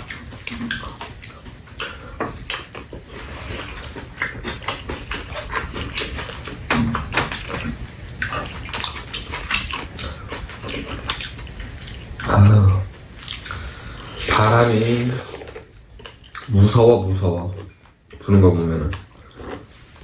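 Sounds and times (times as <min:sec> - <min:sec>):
chewing and slurping: 0:00.0 - 0:16.5, 0:18.9 - 0:20.0.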